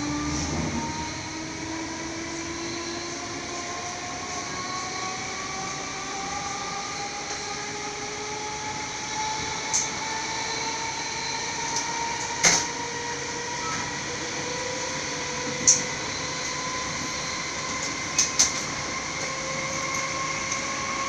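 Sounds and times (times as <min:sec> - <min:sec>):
faint train whine: 0:00.0 - 0:21.0
train running noise: 0:00.0 - 0:21.0.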